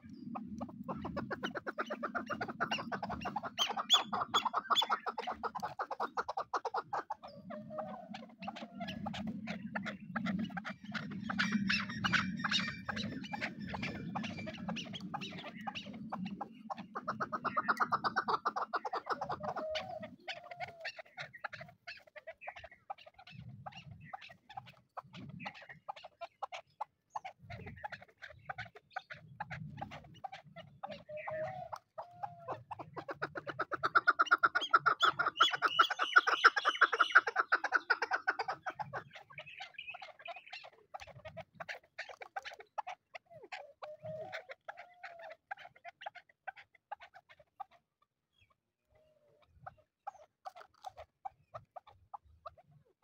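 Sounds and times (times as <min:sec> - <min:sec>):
partridges clucking calls: 0:00.0 - 0:53.0.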